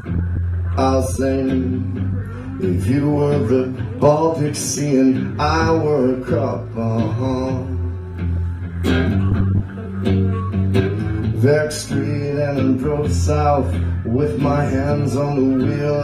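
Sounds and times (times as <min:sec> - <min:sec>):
bass guitar line: 0:00.0 - 0:16.0.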